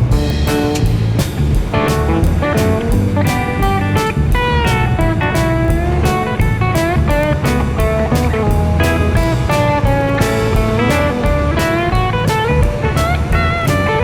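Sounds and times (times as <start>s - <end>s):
bass and drums: 0.0s - 14.0s
blues electric guitar: 0.0s - 14.0s.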